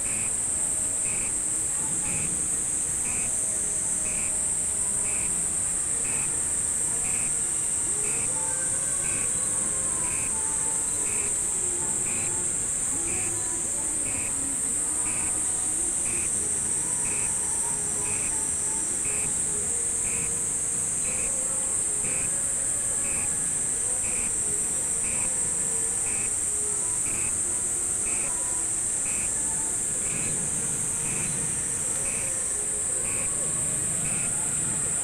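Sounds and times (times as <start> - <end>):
faint music: 0.0 - 35.0
faint voices: 0.0 - 35.0
insect chorus drone: 0.0 - 35.0.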